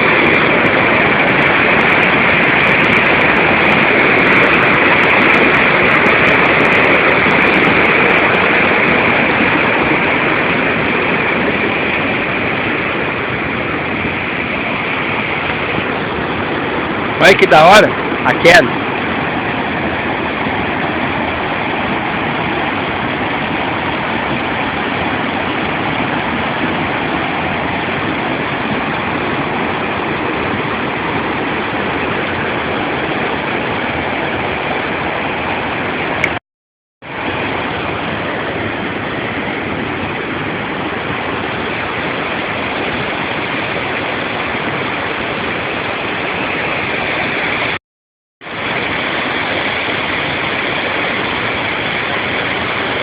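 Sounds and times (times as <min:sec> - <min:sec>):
waterfall rushing: 0:00.0 - 0:36.4, 0:37.0 - 0:47.8, 0:48.4 - 0:53.0.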